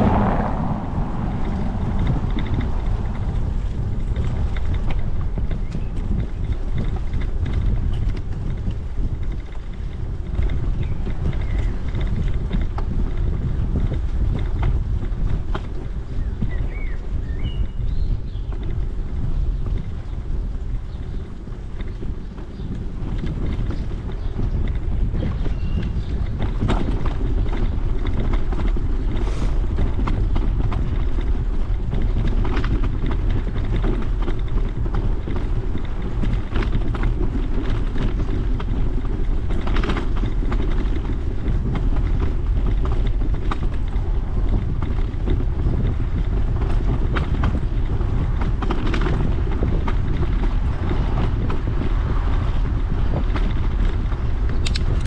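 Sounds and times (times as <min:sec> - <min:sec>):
bicycle knocks and rattles: 0:00.0 - 0:55.0
wind buffeting microphone: 0:00.0 - 0:55.0.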